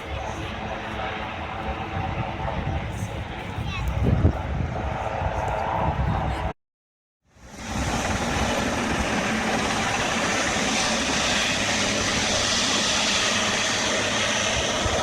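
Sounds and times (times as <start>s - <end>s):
aircraft engine noise: 0.0s - 6.6s, 7.3s - 15.0s.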